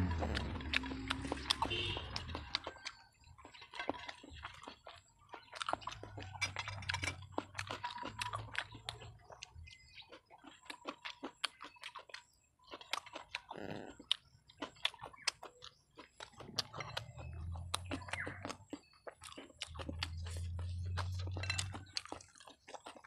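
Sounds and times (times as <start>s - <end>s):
person chewing wetly: 0.0s - 23.0s.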